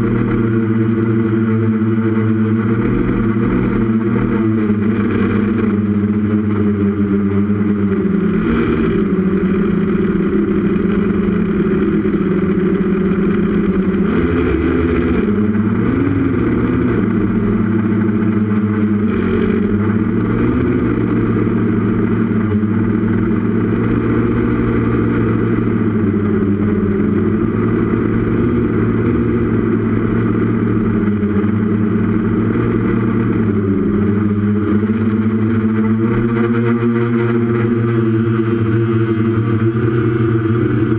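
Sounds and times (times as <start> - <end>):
drone motors and propellers humming: 0.0 - 40.9.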